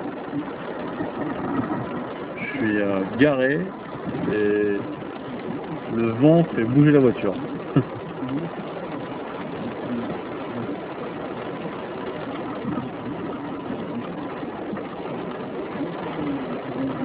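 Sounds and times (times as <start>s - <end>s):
strong wind buffeting a car: 0.0s - 17.0s.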